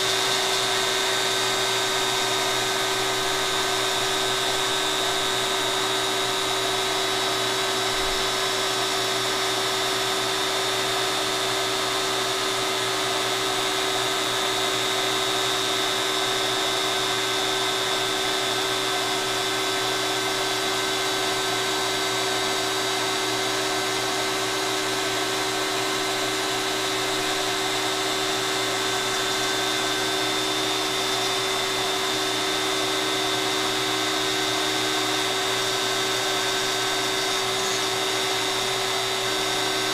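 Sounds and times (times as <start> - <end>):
router motor whining: 0.0 - 39.9.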